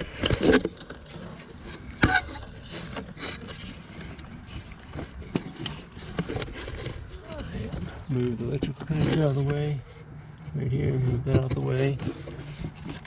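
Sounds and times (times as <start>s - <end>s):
light clicks and rubbing: 0.0s - 13.0s.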